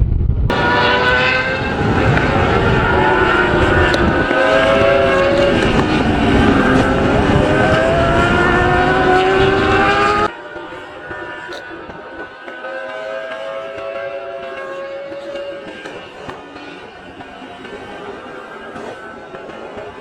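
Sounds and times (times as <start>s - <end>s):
racing motorcycle engines: 0.5s - 20.0s.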